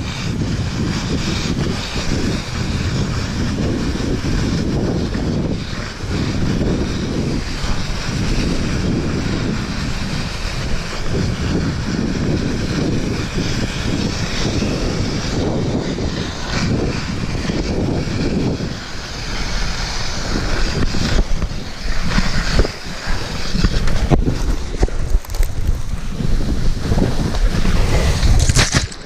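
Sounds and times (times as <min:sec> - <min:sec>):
person sliding down snow: 0:00.0 - 0:29.0
wind buffeting microphone: 0:00.0 - 0:29.0.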